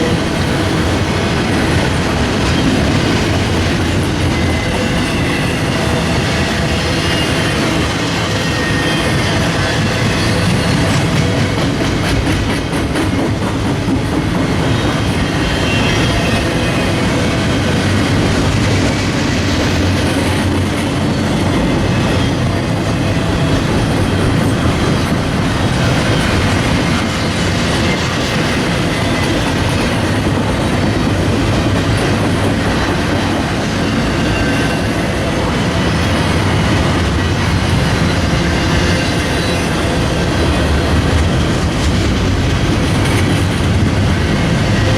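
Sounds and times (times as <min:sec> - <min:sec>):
train rumbling over track: 0:00.0 - 0:44.9.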